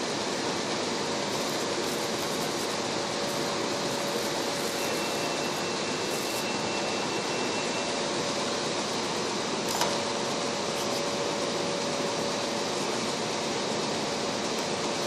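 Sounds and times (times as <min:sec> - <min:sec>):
ventilation rushing noise: 0:00.0 - 0:15.0.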